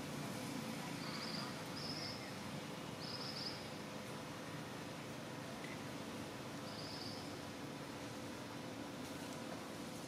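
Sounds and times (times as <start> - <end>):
steady forest hiss: 0.0 - 10.0.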